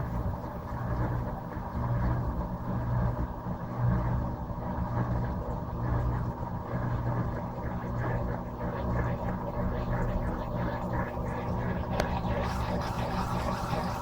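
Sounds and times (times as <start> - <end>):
washing machine motor humming: 0.0 - 14.0.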